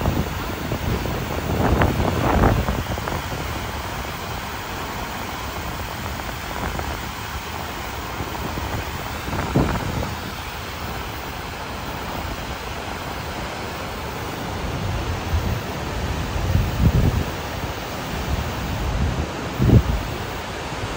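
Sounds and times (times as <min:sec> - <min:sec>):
river rushing in torrent: 0:00.0 - 0:20.9.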